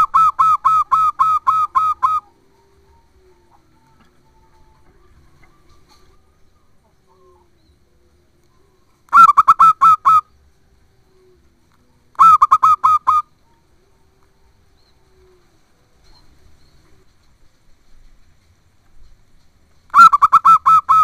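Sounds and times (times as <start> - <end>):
dove cooing: 0.0 - 17.2, 19.9 - 21.0.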